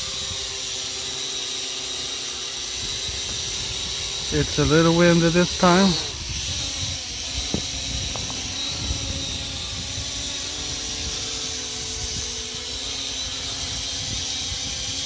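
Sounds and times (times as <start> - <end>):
drone motors whining: 0.0 - 15.0
wind buffeting microphone: 2.6 - 15.0.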